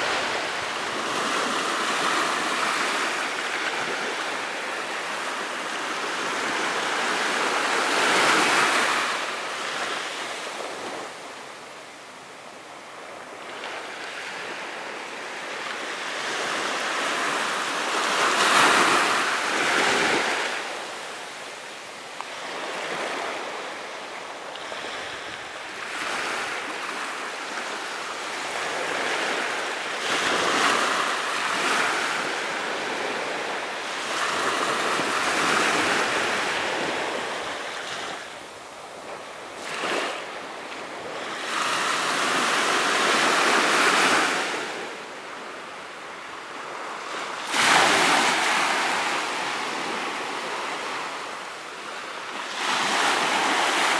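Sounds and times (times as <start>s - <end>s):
ocean waves washing onto beach: 0.0s - 53.9s.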